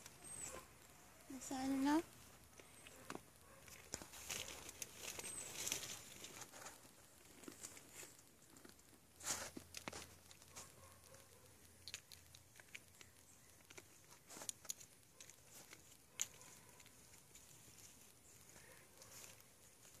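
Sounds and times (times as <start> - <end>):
rustling dry leaves: 0.0 - 20.0
deer chewing acorns: 2.4 - 20.0.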